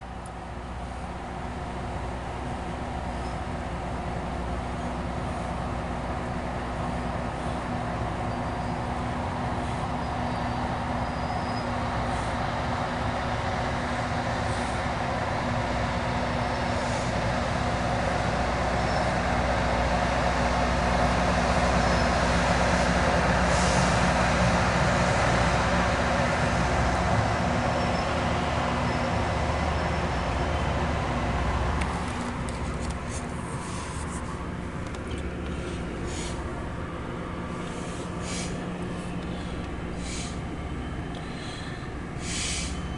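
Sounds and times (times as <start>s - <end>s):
train rumbling on rails: 0.0s - 42.9s.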